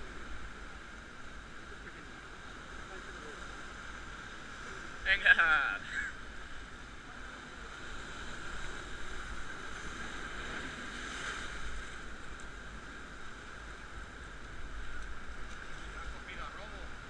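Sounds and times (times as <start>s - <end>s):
surf breaking over rocks: 0.0s - 17.0s.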